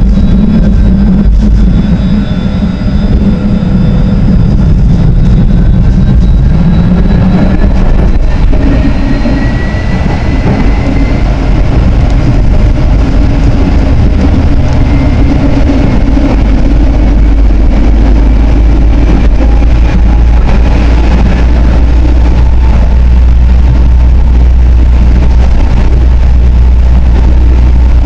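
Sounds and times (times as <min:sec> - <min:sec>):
faint whine: 0:00.0 - 0:28.0
tram rumbling on track: 0:00.0 - 0:28.0.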